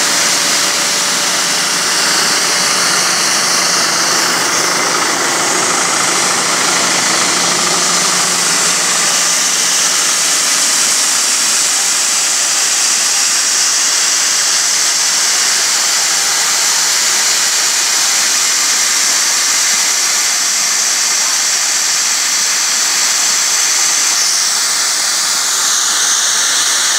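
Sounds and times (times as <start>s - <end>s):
corn pouring into hopper: 0.0s - 26.9s
grain dryer machinery noise: 0.0s - 26.9s
tractor engine idling: 0.0s - 26.9s.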